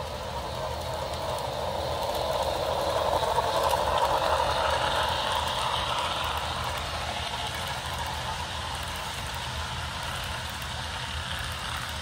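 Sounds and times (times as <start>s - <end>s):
model train whirring on rails: 0.0s - 12.0s.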